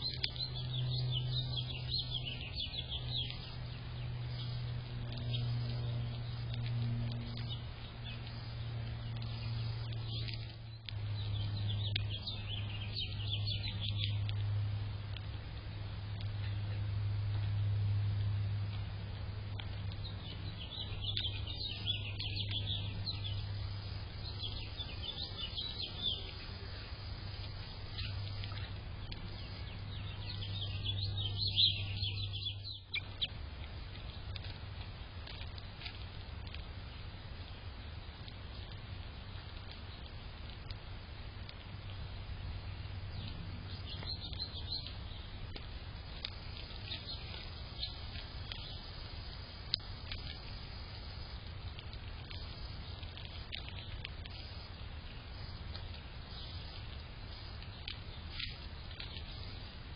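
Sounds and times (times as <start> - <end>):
small birds chirping: 0.0 - 17.6, 18.7 - 59.9
low background noise: 0.0 - 59.9
steady low hum: 0.0 - 59.9.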